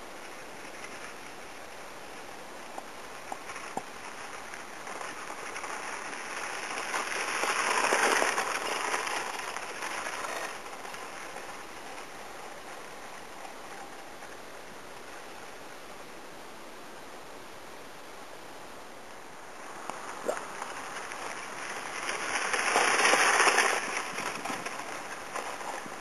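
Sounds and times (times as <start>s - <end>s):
wheels hissing on asphalt: 0.0s - 26.0s.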